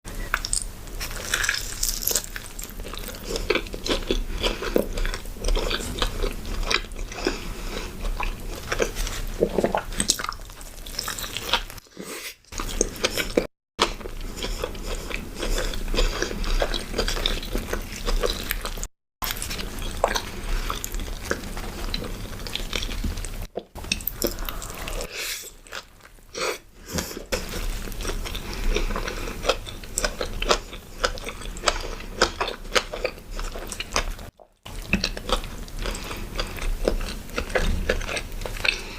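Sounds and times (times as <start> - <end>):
chewing and crunching burger: 0.3 - 11.9, 12.5 - 38.9.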